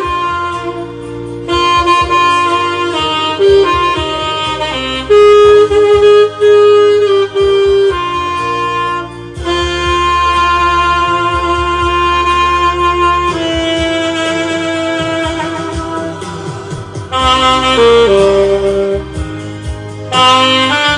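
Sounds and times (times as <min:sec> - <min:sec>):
saxophone melody: 0:00.0 - 0:20.9.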